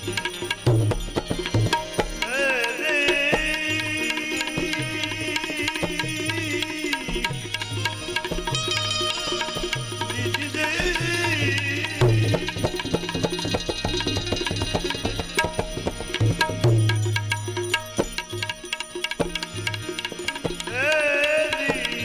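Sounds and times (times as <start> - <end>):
tabla playing a rhythm: 0.0 - 22.0.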